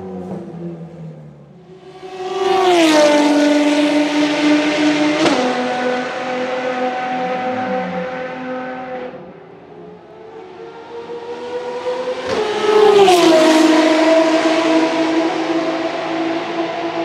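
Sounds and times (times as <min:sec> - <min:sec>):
previous car engine: 0:00.0 - 0:17.0
race car passing at speed: 0:00.0 - 0:17.0.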